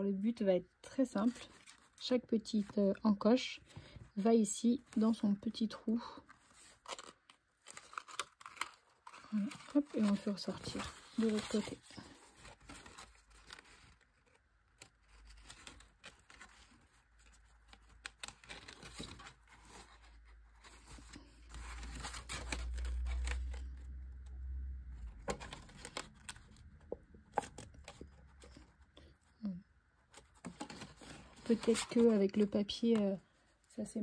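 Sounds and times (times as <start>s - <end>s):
cardstock rustling and crinkling: 0.3s - 34.0s.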